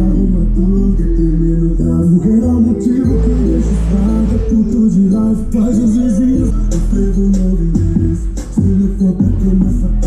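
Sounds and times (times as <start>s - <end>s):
heavy bass: 0.0s - 10.0s
loud car stereo music: 0.0s - 10.0s.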